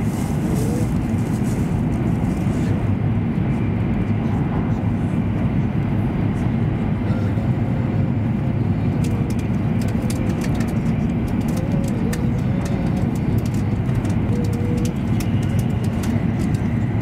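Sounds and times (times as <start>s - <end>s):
train cabin low rumble: 0.0s - 17.0s.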